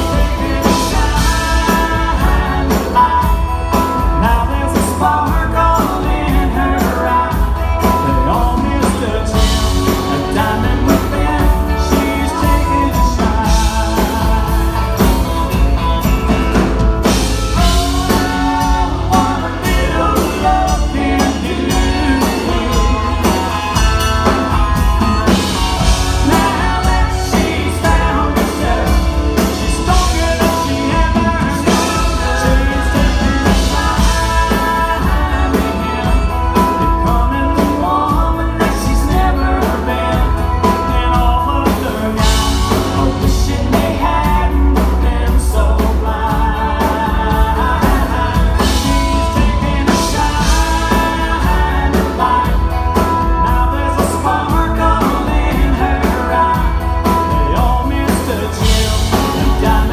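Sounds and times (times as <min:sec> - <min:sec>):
man singing into microphone: 0:00.0 - 0:15.7, 0:17.0 - 0:59.9
band with bass and drums: 0:00.0 - 0:59.9.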